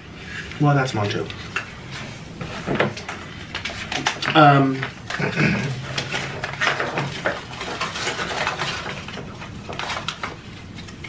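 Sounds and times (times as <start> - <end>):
cable and paper rustling: 0.3 - 11.0.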